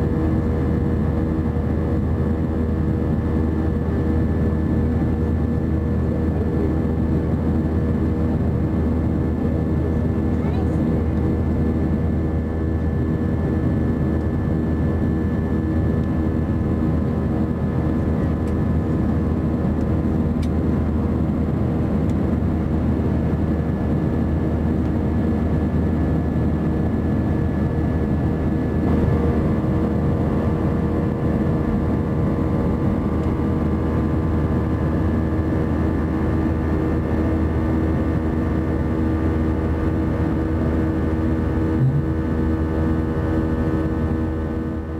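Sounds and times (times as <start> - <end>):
jet engines droning in cabin: 0.0 - 44.9.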